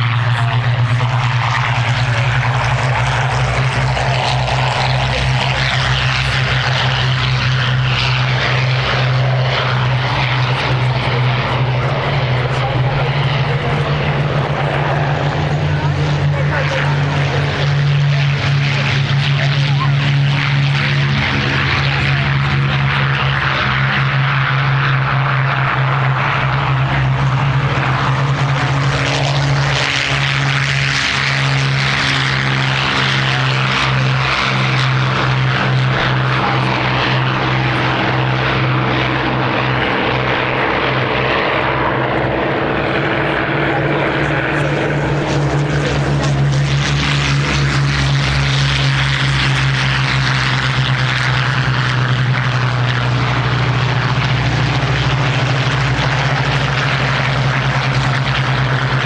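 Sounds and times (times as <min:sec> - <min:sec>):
propeller aircraft engines drone: 0:00.0 - 0:59.0.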